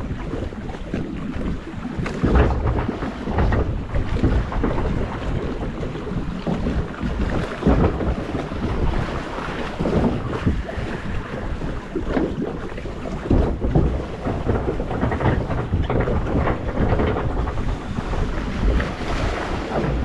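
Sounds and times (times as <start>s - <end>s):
deep steady rumble: 0.0s - 20.0s
water rushing and splashing: 0.0s - 20.0s
wind buffeting microphone: 0.0s - 20.0s.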